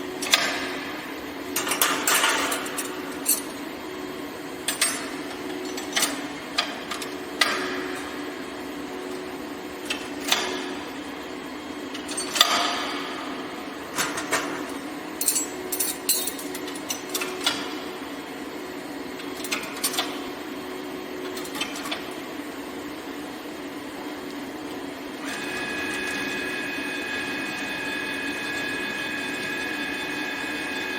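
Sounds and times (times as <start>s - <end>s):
steady machine hum: 0.0s - 30.9s.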